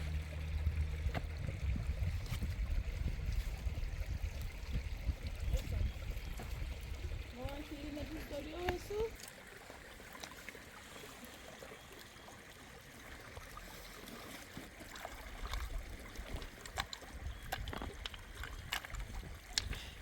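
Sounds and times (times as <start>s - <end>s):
faint running water: 0.0s - 20.0s.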